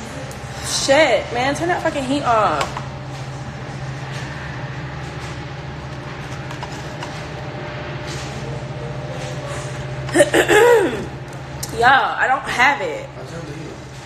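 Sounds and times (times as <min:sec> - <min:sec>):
low mechanical hum with flutter: 0:00.0 - 0:14.0.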